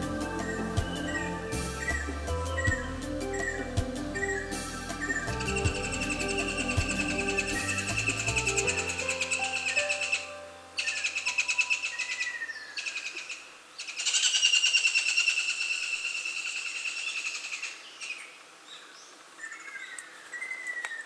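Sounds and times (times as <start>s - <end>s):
birds buzzy trills: 0.0s - 18.1s
falling whistled bird calls: 0.2s - 18.3s, 19.4s - 21.0s.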